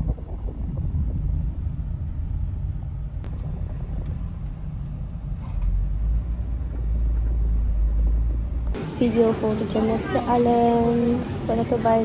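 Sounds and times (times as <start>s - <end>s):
car road noise rumble: 0.0s - 12.0s.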